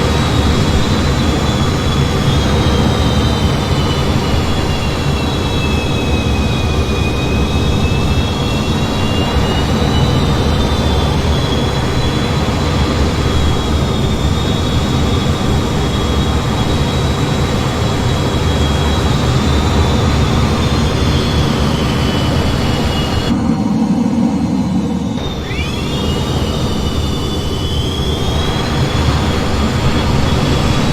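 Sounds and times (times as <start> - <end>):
jet engines running: 0.0 - 30.9.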